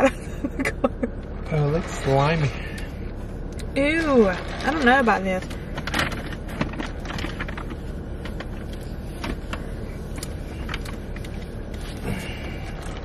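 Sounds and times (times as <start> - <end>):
car interior engine hum: 0.0 - 13.0.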